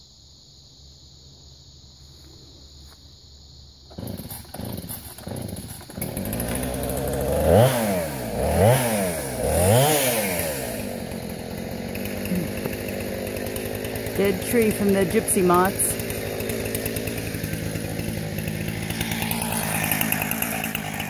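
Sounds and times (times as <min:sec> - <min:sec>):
chainsaw starting and revving: 0:03.9 - 0:21.0.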